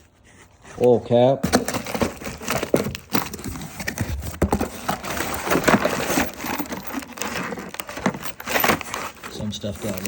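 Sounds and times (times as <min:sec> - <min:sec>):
rustling: 0:00.0 - 0:10.0
hardware clacking in a box: 0:01.4 - 0:10.0.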